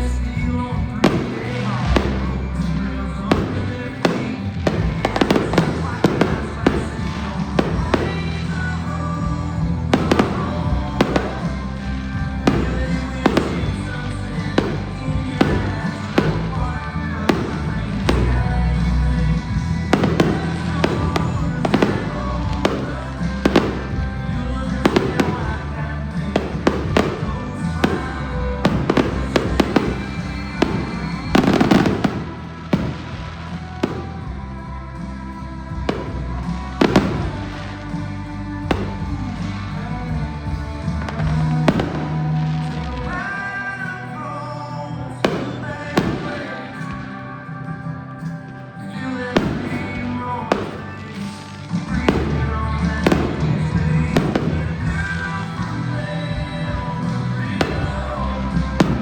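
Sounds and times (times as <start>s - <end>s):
fireworks bangs: 0.0s - 59.0s
music playing: 0.0s - 59.0s.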